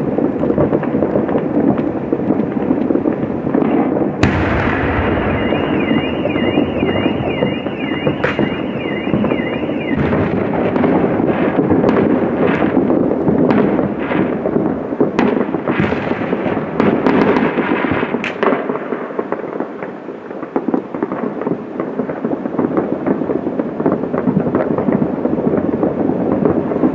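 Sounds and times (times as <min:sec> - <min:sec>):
fireworks crackling and banging: 0:00.0 - 0:26.9.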